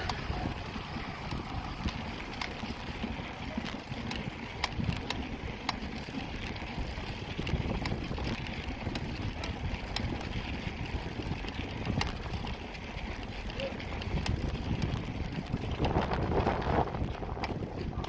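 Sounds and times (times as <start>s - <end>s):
sharp rattling clicks: 0.0s - 18.0s
wheels rolling over paving stones: 0.0s - 18.0s
wind buffeting microphone: 0.0s - 18.0s.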